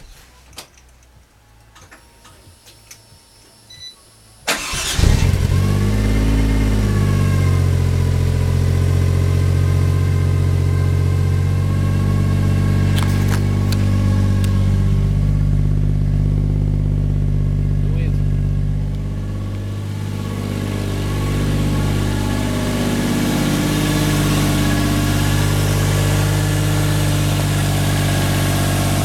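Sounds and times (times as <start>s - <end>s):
car engine starting and idling: 4.2s - 29.0s.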